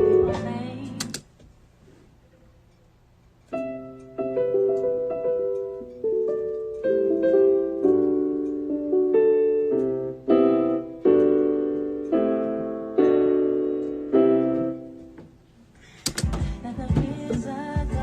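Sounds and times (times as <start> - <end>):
piano chords: 0.0 - 1.2, 3.5 - 15.6, 16.2 - 18.0.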